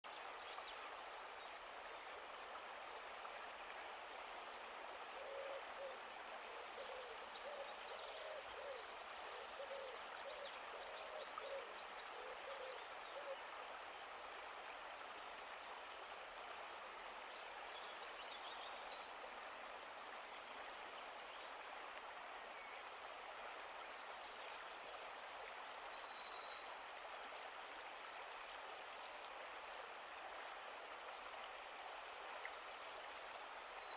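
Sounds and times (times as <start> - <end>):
faint steady hiss: 0.0 - 33.9.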